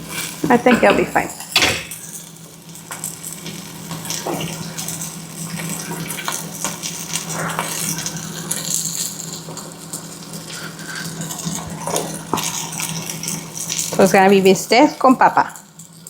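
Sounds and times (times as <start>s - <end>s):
meat and potatoes sizzling in a pan: 0.0s - 16.0s.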